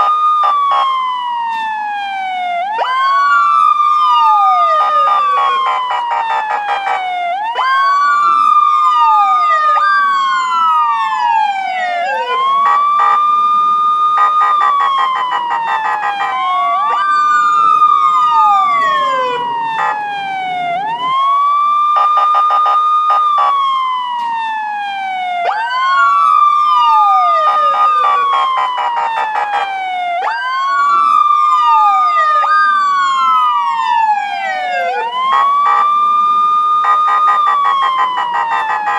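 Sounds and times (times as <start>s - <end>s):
police siren wailing: 0.0s - 38.9s
second siren wailing tone: 0.0s - 38.9s.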